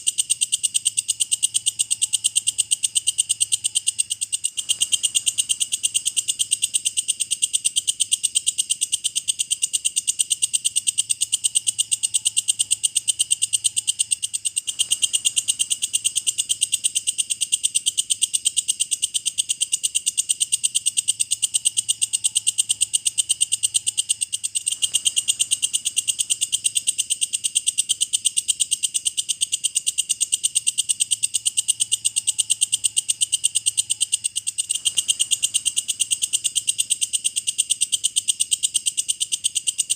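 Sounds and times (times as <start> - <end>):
katydid high-pitched trill: 0.0 - 39.9.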